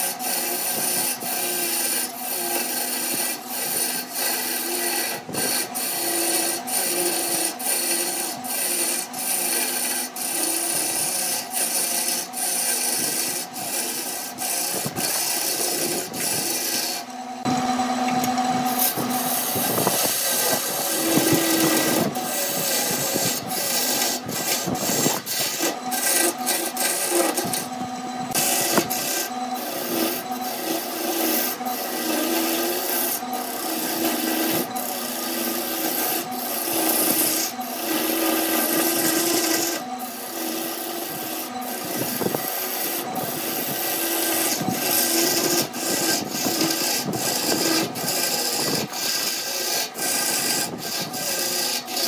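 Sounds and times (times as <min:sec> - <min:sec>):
lathe humming: 0:00.0 - 0:52.0
lathe tool scraping wood: 0:00.0 - 0:52.0.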